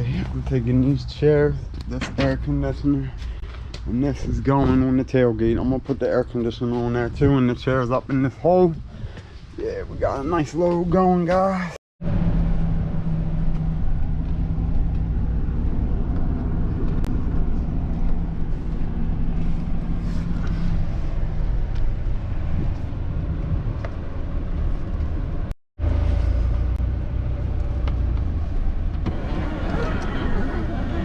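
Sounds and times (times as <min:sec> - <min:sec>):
truck engine and road rumble: 0:00.0 - 0:31.0.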